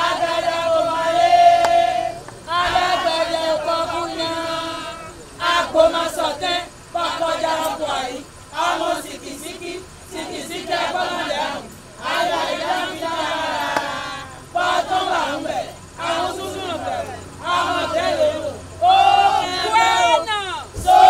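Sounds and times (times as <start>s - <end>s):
women chanting together: 0.0s - 21.0s.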